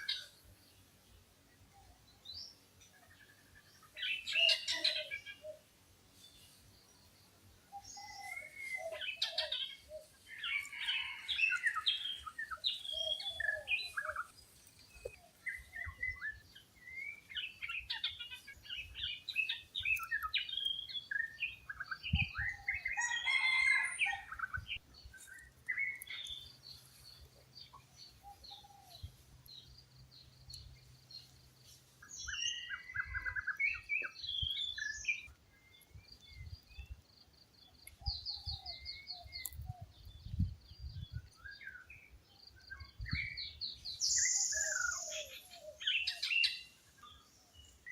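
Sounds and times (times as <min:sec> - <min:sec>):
wild birds chirping: 0:00.0 - 0:47.9.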